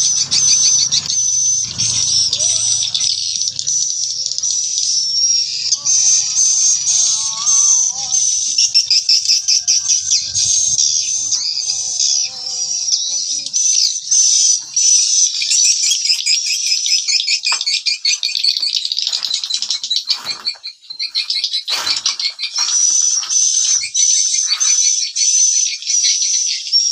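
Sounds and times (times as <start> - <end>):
swiftlets twittering and chirping: 0.0 - 26.8.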